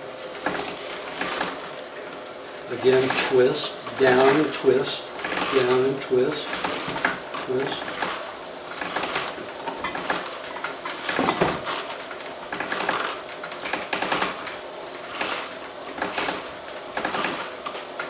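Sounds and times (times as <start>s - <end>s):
gear juicer grinding coconut: 0.0s - 18.0s.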